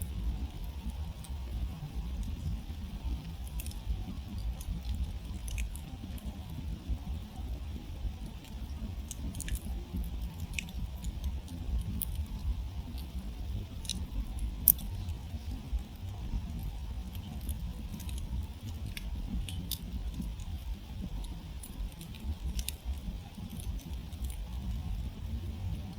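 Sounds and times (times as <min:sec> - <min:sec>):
campfire crackling: 0:00.0 - 0:25.9.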